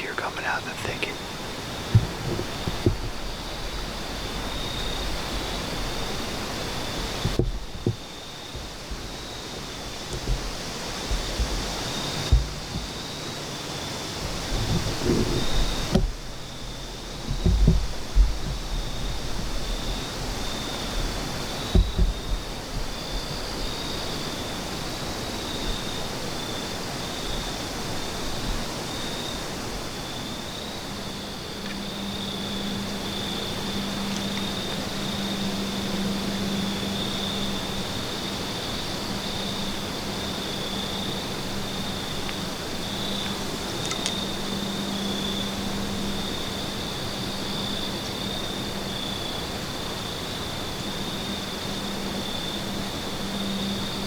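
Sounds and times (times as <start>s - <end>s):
crickets trilling: 0.0s - 54.0s
steady hiss: 0.0s - 54.0s.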